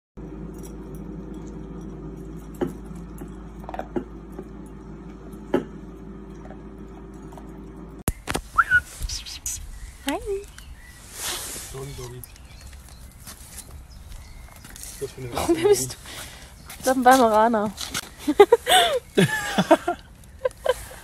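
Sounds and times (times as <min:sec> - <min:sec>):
steady low hum: 0:00.2 - 0:21.0.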